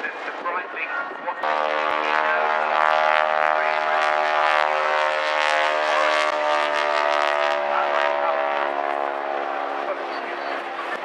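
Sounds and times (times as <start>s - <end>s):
propeller plane engine drone: 0.0s - 11.0s.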